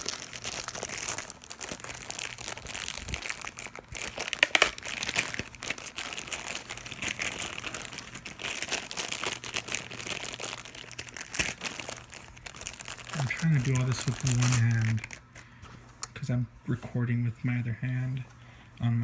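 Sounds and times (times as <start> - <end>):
packaging crinkling: 0.0 - 18.8.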